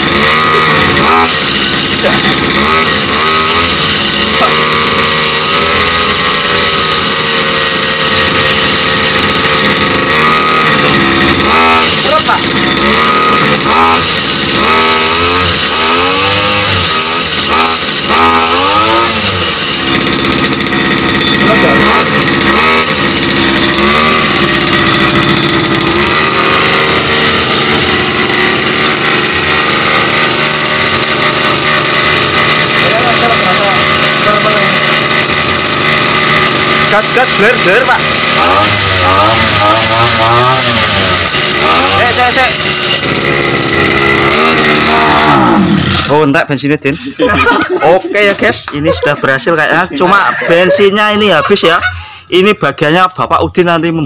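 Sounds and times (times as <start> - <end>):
small petrol engine running: 0.0 - 46.4, 47.0 - 52.3.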